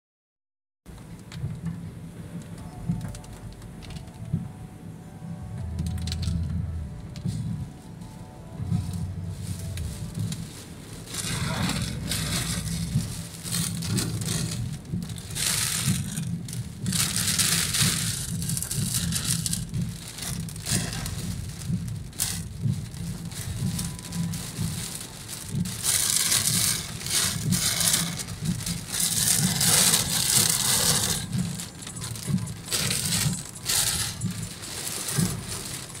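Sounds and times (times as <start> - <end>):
heavy rain on car roof: 0.9 - 5.0, 5.6 - 36.0
engine and tyres on wet road: 0.9 - 36.0.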